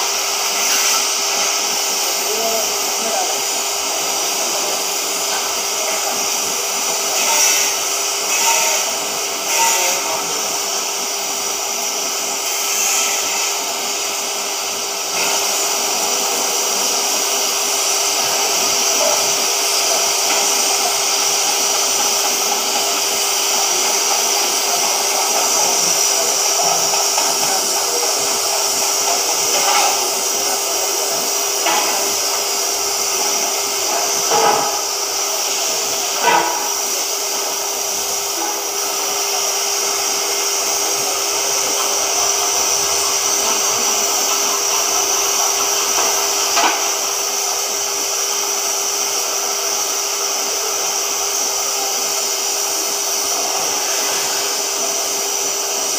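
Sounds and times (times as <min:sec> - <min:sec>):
cutting torch hissing: 0:00.0 - 0:55.9.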